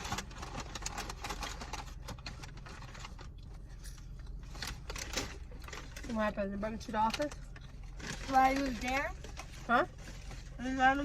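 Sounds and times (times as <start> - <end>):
chewing and crunching food: 0.0 - 10.8.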